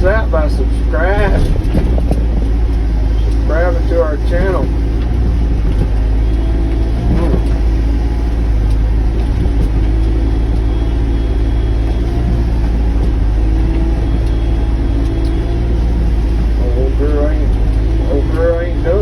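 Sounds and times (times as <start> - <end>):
excavator diesel engine rumbling: 0.0 - 19.0.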